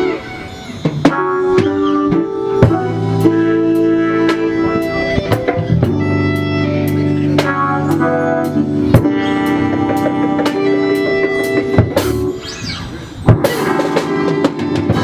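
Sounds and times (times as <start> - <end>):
drum kit beat: 0.0 - 12.4, 13.2 - 15.0
guitar and keyboard chords: 0.0 - 15.0.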